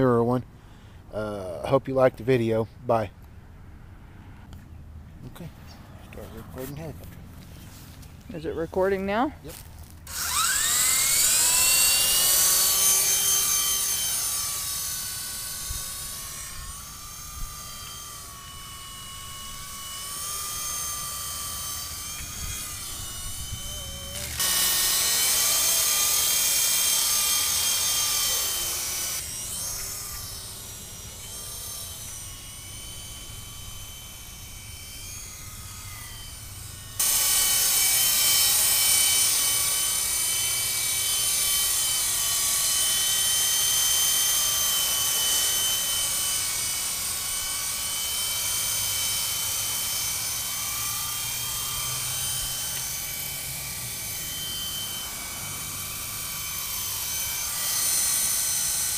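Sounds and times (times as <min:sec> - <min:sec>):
rc helicopter rotor whine: 0:06.2 - 0:58.9.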